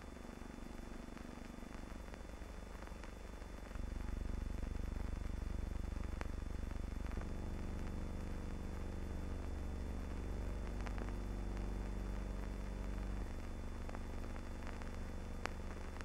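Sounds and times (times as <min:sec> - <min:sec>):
film soundtrack hum and hiss: 0:00.0 - 0:16.0.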